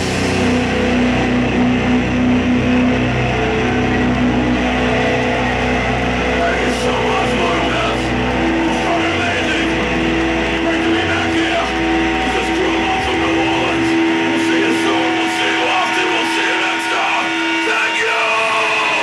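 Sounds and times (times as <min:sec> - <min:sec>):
distorted electric guitar chord: 0:00.0 - 0:19.0
guitar feedback tones: 0:00.0 - 0:19.0.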